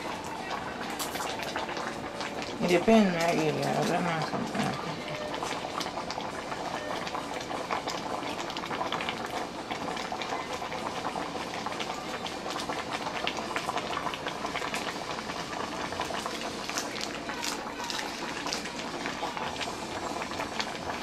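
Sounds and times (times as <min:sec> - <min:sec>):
soup boiling and popping: 0:00.0 - 0:21.0.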